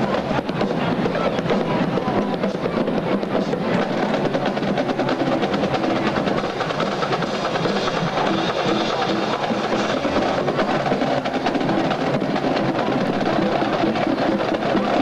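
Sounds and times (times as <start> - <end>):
drums beating fast: 0.0 - 15.0
marching band playing: 0.0 - 15.0.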